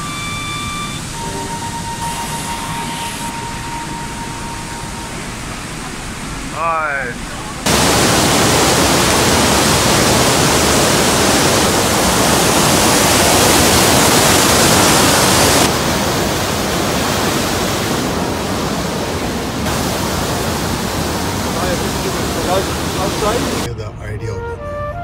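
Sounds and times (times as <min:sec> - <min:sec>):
waterfall rushing over rocks: 0:00.0 - 0:23.7.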